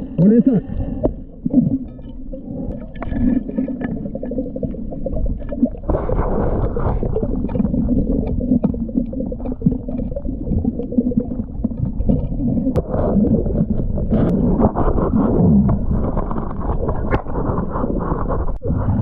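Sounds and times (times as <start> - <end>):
underwater rush and bubbling: 0.0 - 19.0.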